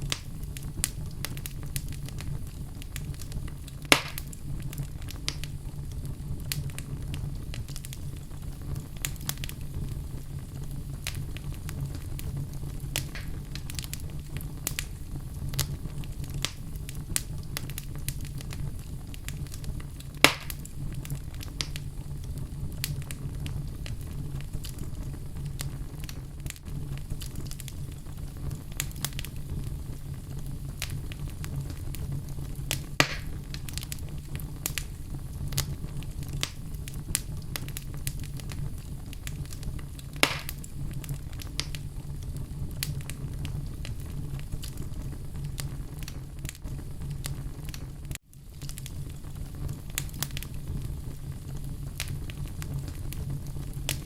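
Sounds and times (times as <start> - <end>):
fire crackles and pops: 0.0 - 54.0
low rumble of flames: 0.0 - 54.0.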